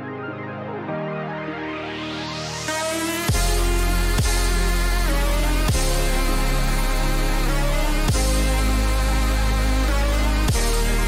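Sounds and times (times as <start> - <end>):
music with heavy bass line: 1.2 - 11.0.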